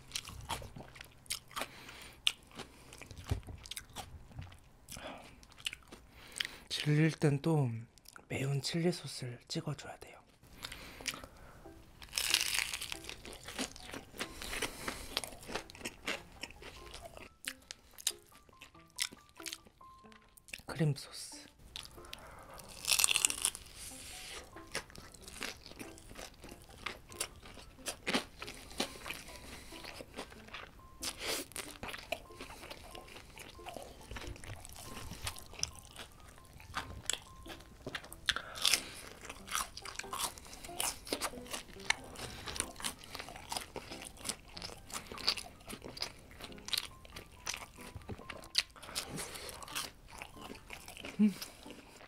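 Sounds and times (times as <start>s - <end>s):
crunchy chewing of fried food: 0.0s - 7.0s, 10.5s - 20.7s, 21.6s - 52.0s.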